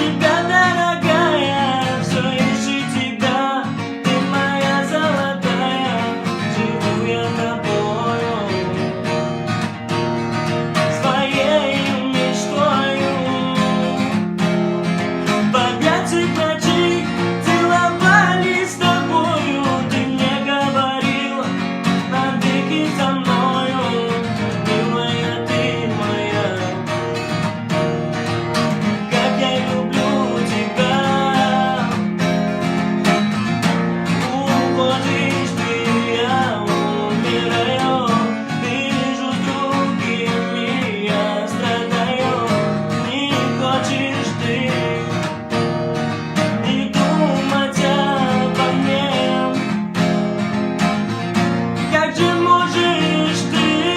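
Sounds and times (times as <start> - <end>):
person singing: 0.0 - 9.6, 10.6 - 14.4, 15.0 - 27.7, 28.8 - 32.6, 34.0 - 45.6, 46.3 - 50.1, 51.8 - 53.9
acoustic guitar: 0.0 - 53.9.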